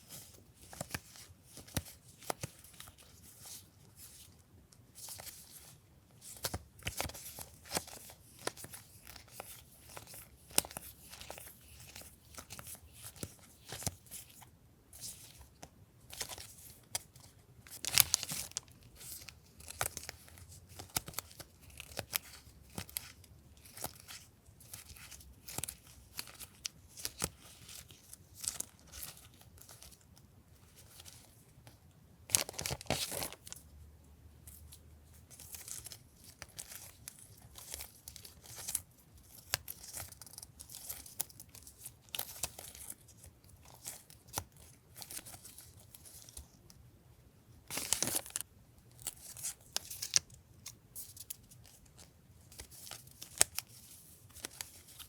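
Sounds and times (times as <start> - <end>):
plastic and paper crinkling: 0.0 - 33.6, 34.5 - 46.7, 47.7 - 55.0.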